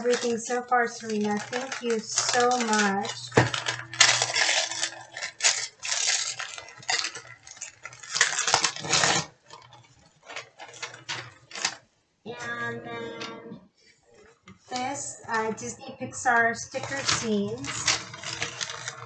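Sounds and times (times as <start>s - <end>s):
plastic wrapping crinkling: 0.0s - 11.9s, 13.9s - 19.0s.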